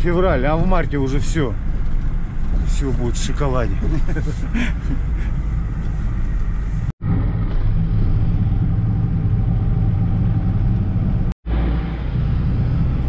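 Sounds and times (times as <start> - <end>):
vehicle engine drone and road noise: 0.0 - 13.0.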